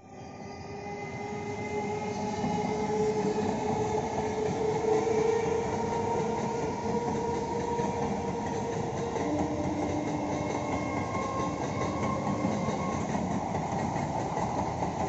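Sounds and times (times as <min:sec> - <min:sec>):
train wheels rumbling on rail: 0:00.7 - 0:15.0.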